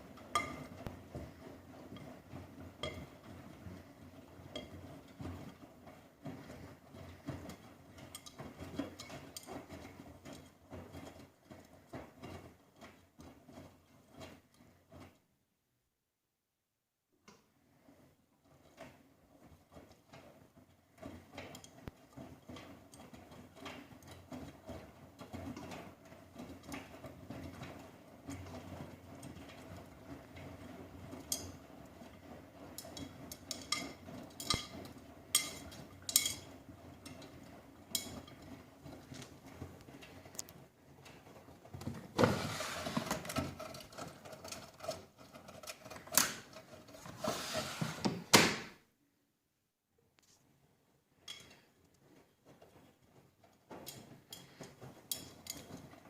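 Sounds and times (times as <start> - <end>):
washing machine rushing: 0.0 - 15.2, 17.7 - 48.7.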